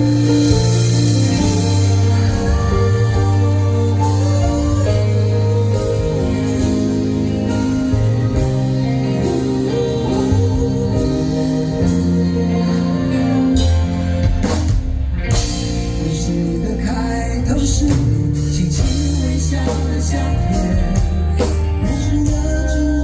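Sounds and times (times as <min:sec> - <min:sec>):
live band playing pop-rock ballad: 0:00.0 - 0:23.0.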